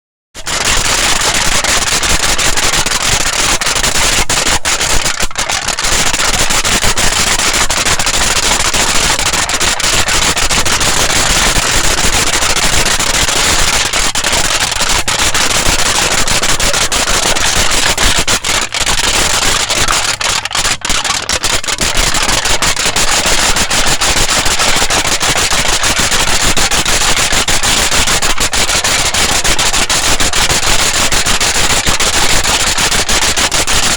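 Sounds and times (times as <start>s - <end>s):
aluminium foil crinkling: 0.4s - 33.9s.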